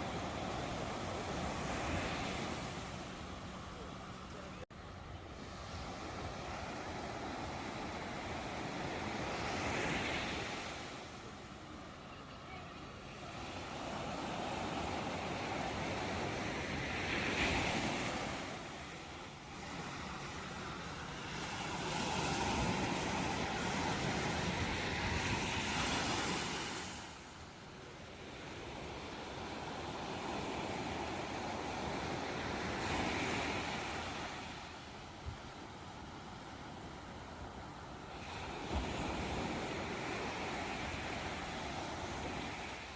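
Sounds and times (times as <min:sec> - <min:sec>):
ocean waves breaking on shore: 0:00.0 - 0:42.9.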